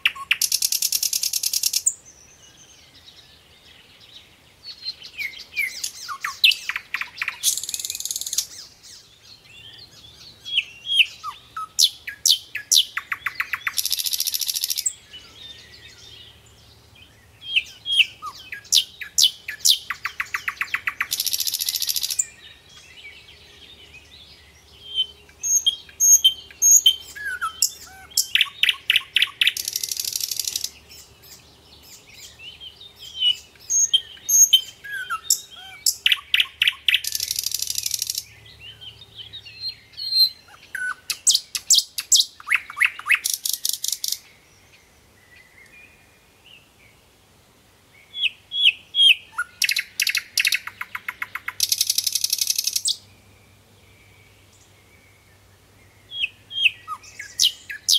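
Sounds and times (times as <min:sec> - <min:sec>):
bird song with rattling trill: 0:00.0 - 0:46.2, 0:48.1 - 0:57.9
cage birds chirping: 0:00.0 - 0:47.0, 0:48.0 - 0:57.9.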